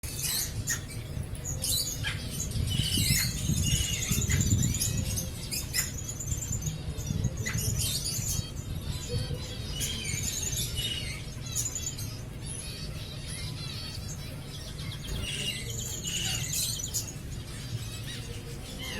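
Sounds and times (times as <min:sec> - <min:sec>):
birds chirping and squeaking: 0:00.0 - 0:18.9.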